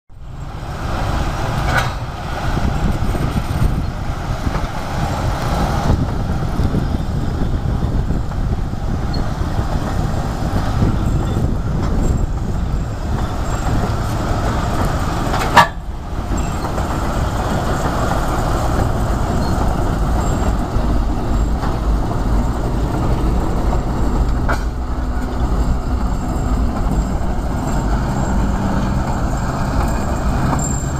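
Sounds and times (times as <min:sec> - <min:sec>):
diesel locomotive engine running: 0:00.1 - 0:30.9
wheels rumbling on rails: 0:00.1 - 0:30.9.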